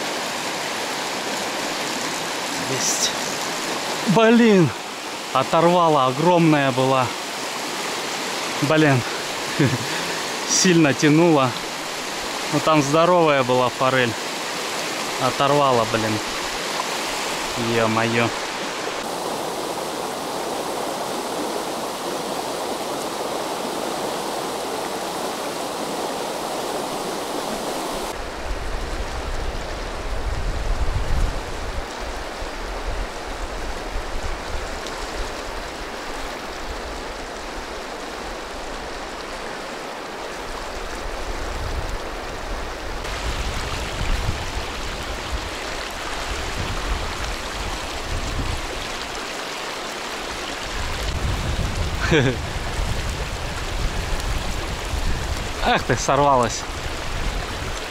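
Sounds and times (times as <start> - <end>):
river rushing over stones: 0.0 - 57.9.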